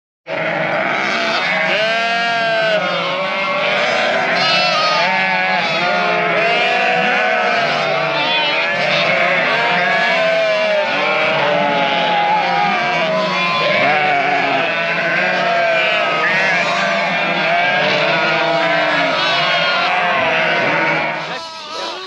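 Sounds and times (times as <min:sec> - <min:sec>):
sheep bleating: 0:00.3 - 0:22.0.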